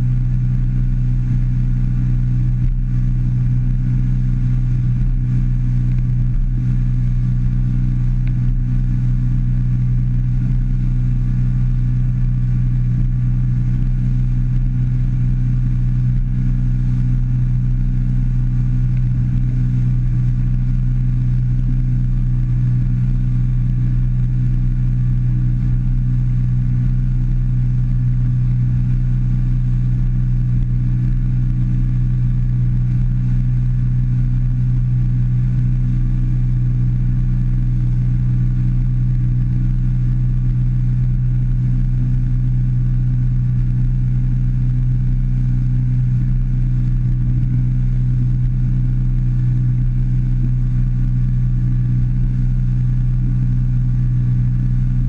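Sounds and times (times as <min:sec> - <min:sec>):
outboard motor droning: 0:00.0 - 0:55.0.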